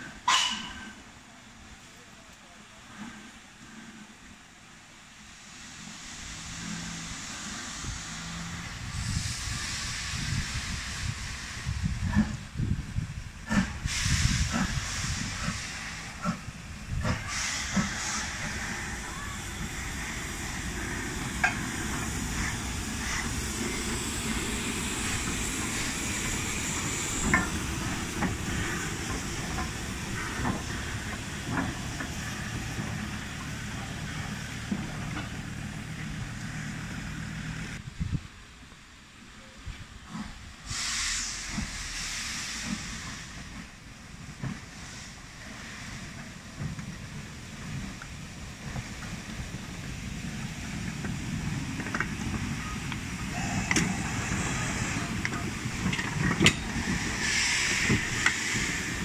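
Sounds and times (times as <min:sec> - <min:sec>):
steam locomotive hissing: 0:00.0 - 0:38.2, 0:39.2 - 0:59.0.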